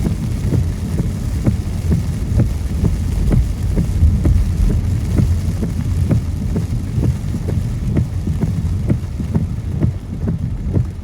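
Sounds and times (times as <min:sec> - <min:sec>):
road and tyre noise: 0:00.0 - 0:11.0
soft regular thumps: 0:00.0 - 0:11.0.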